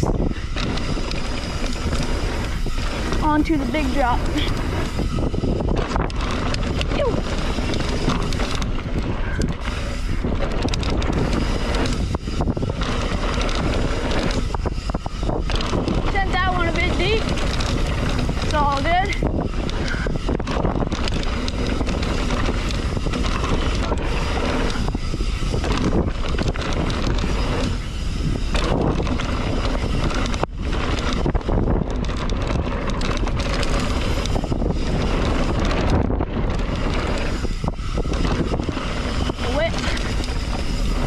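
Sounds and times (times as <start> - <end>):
bike knocks and rattles: 0.0 - 41.0
tyres rushing on dirt: 0.0 - 41.0
wind buffeting microphone: 0.0 - 41.0.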